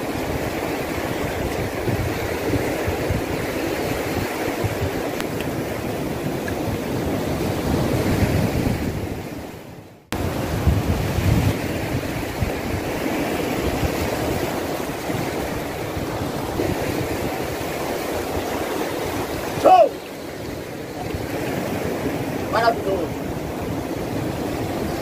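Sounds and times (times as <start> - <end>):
ocean surf on rocks: 0.0 - 25.0
wind buffeting microphone: 0.0 - 25.0.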